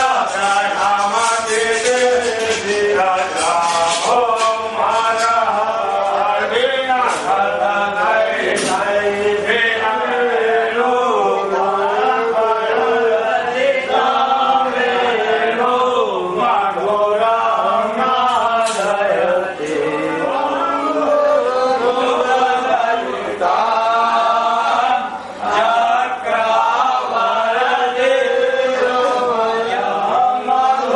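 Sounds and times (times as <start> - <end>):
voices chanting mantras: 0.0 - 30.9.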